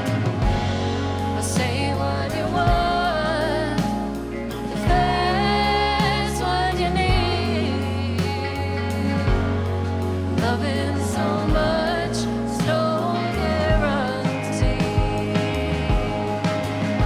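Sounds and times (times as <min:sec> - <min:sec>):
rock band playing: 0:00.0 - 0:17.0
woman singing with vibrato: 0:01.4 - 0:09.7, 0:10.4 - 0:17.0.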